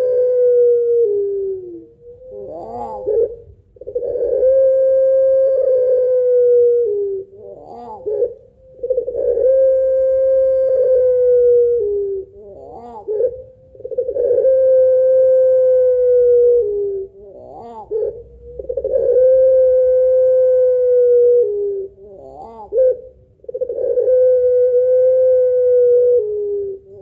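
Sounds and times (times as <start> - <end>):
dove long drawn-out coos: 0.0 - 27.0
dove warbling trill: 0.0 - 27.0.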